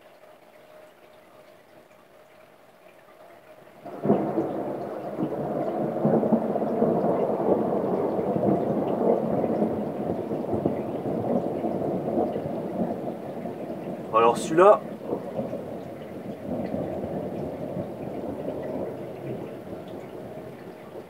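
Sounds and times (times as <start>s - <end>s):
thunder rumbling: 3.8s - 21.0s.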